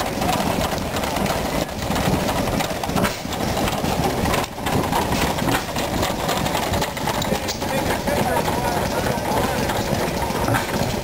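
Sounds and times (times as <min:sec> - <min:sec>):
stationary engines clattering: 0:00.0 - 0:11.0.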